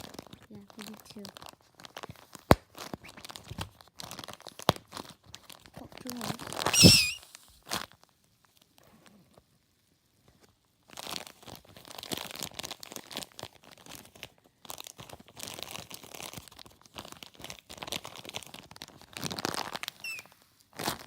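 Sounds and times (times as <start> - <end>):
plastic bag crinkling: 0.0 - 7.8, 10.9 - 21.0.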